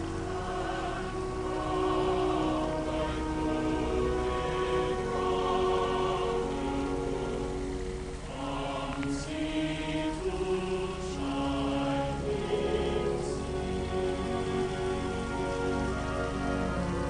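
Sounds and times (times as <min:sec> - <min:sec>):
music of slow held chords: 0:00.0 - 0:17.0.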